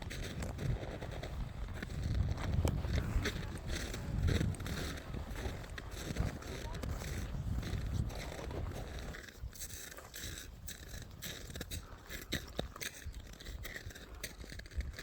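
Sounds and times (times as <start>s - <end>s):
footsteps crunching on snow: 0.0s - 15.0s.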